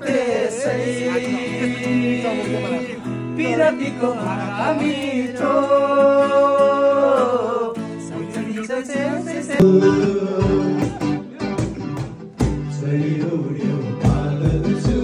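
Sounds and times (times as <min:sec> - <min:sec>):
men singing together: 0:00.0 - 0:11.3, 0:12.6 - 0:15.0
strummed acoustic guitar: 0:00.0 - 0:15.0.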